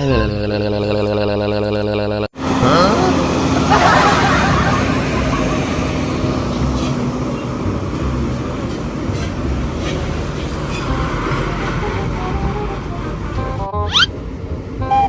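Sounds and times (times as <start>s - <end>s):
heavy vehicle engine rumble: 2.4s - 15.0s.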